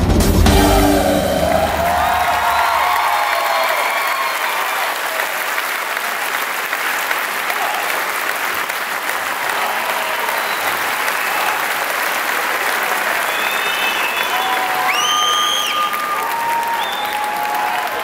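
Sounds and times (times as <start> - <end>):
audience applauding: 1.0 - 18.0.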